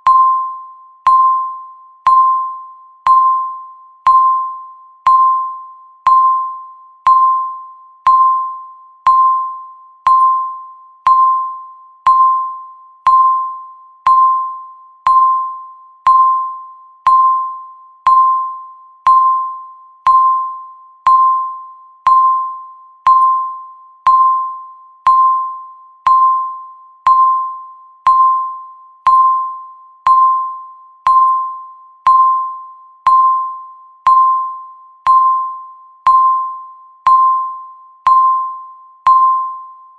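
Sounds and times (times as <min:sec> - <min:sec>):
timer beeps: 0:00.0 - 0:39.9.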